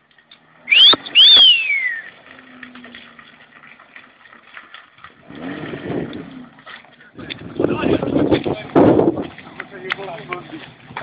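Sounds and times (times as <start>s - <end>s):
car tyres squealing: 0.4s - 11.0s.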